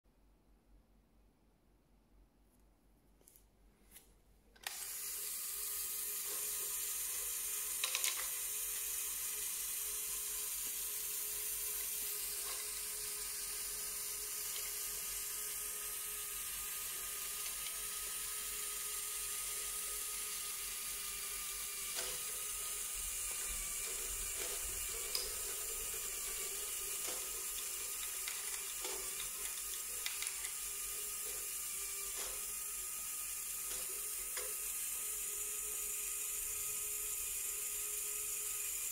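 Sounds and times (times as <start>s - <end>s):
motor and plastic gears whirring: 4.6s - 38.9s.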